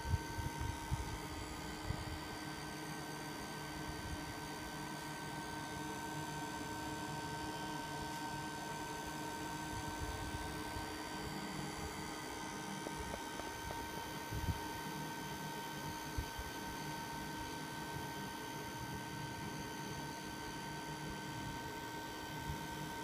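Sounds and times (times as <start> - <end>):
smoke machine electric hum and whine: 0.0 - 23.0.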